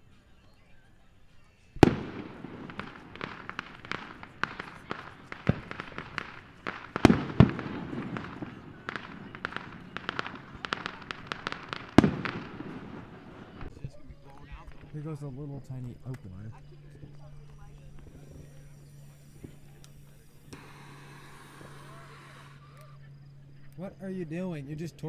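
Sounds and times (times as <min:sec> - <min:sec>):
fireworks pops and crackles: 0:01.7 - 0:23.3
fireworks bangs: 0:01.7 - 0:23.4.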